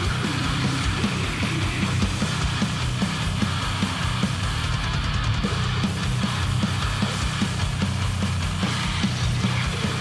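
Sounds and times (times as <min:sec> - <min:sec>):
distorted guitars: 0:00.0 - 0:10.0
fast loud drums: 0:00.0 - 0:10.0.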